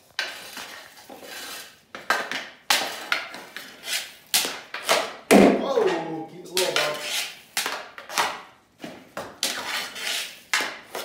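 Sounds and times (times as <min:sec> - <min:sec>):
stick scraping concrete: 0:00.0 - 0:05.2, 0:05.8 - 0:08.4, 0:09.4 - 0:11.0
hockey stick clacking pucks: 0:00.1 - 0:11.0.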